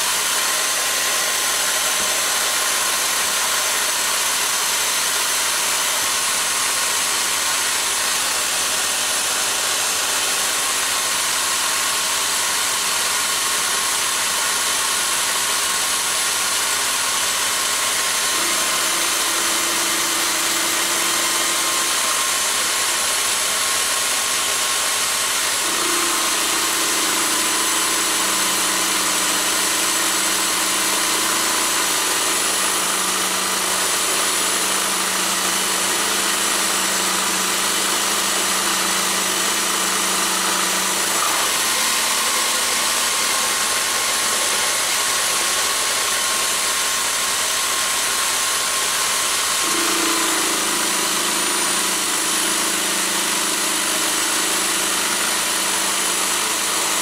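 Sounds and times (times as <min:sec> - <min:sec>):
drill motor whine: 0:00.0 - 0:57.0
end mill cutting steel: 0:00.0 - 0:57.0.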